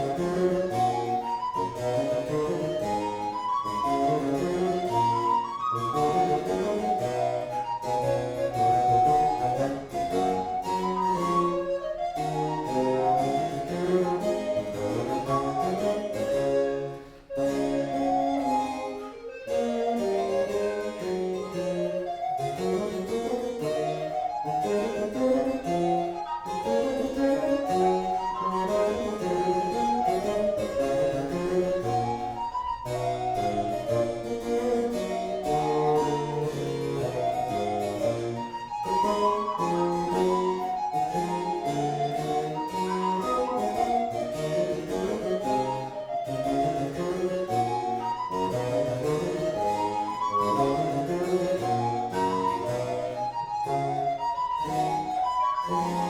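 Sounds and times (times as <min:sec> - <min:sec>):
harpsichord: 0:00.0 - 0:56.0
recorder melody: 0:00.0 - 0:56.0.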